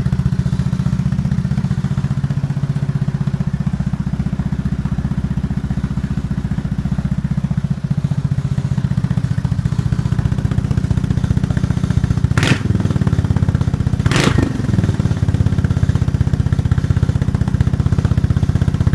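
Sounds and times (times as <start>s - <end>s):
scooter engine idling: 0.0s - 18.9s.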